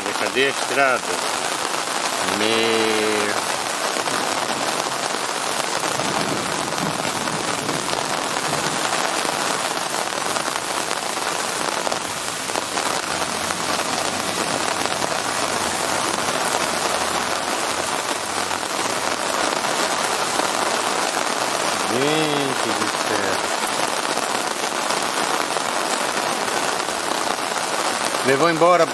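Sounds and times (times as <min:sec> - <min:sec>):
torrential rain on a flooded street: 0:00.0 - 0:28.9.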